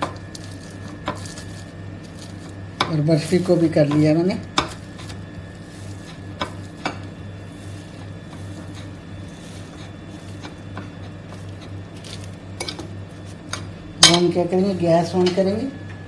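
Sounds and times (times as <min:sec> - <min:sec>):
fork mashing soft sweets: 0:00.0 - 0:14.2
steady low hum: 0:00.0 - 0:16.0.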